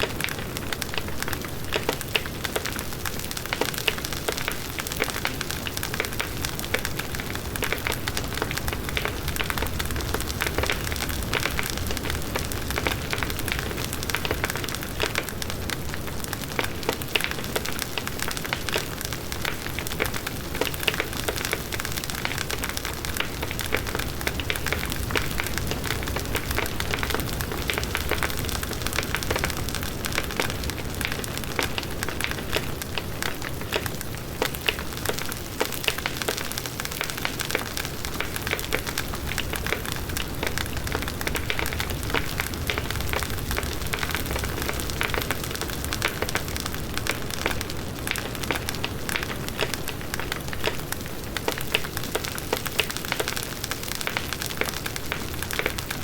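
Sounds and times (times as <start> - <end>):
burning wood crackling and popping: 0.0 - 56.0.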